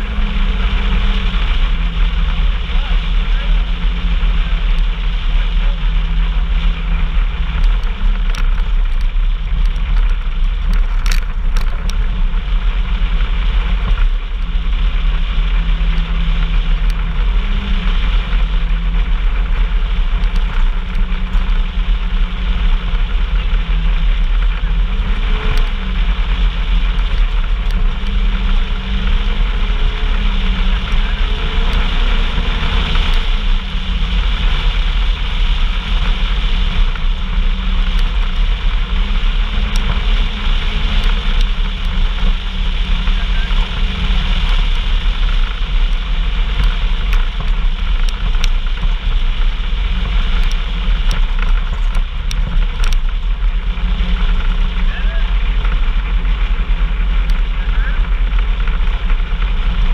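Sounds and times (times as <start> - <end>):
heavy low rumble: 0.0 - 59.9
vehicle engine running: 0.0 - 59.9.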